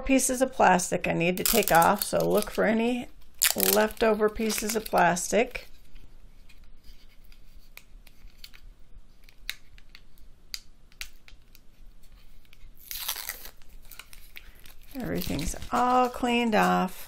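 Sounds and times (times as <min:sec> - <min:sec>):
plastic film peeling: 0:01.4 - 0:17.0.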